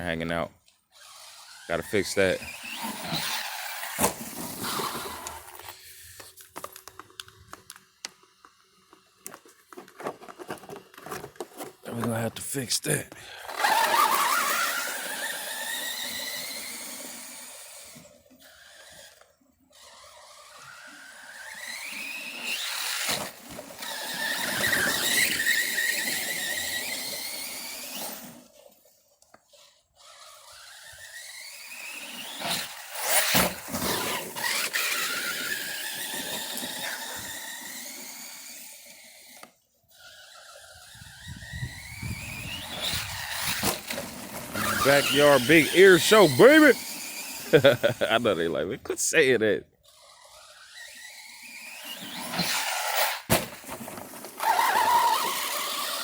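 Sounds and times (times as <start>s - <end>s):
toy car electric motor whining: 0.6s - 12.2s, 12.9s - 56.0s.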